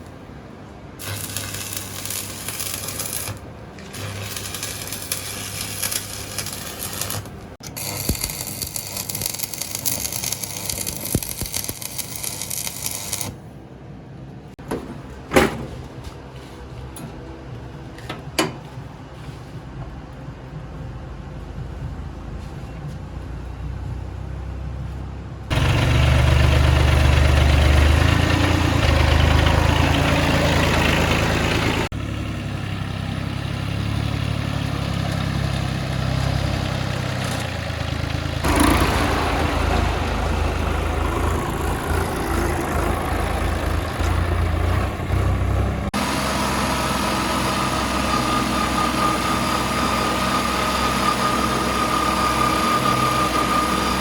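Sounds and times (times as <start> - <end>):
engine running: 0.0 - 15.1, 16.0 - 54.0.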